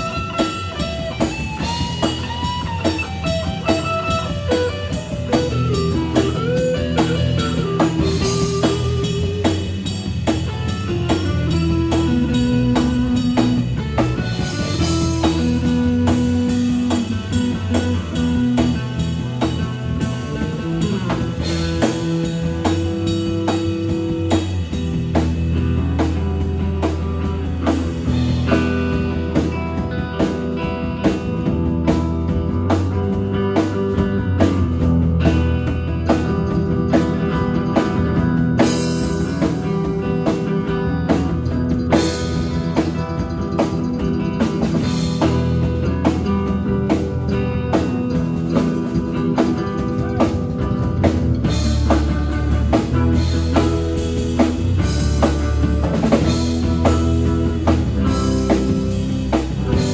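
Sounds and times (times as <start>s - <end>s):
drum kit beat: 0.0s - 59.9s
electric bass guitar: 0.0s - 59.9s
electric guitar: 0.0s - 59.9s.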